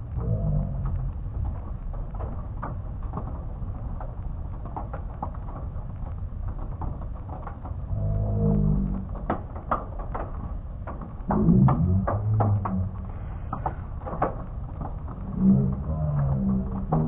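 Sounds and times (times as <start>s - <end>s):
hail tapping on window: 0.0s - 17.0s
steady low rumble: 0.0s - 17.0s.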